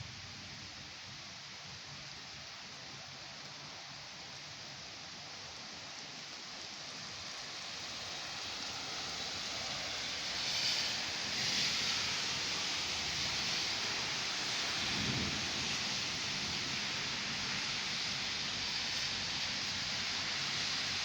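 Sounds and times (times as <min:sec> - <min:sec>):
rain hissing: 0:00.0 - 0:21.0
wind: 0:00.0 - 0:21.0.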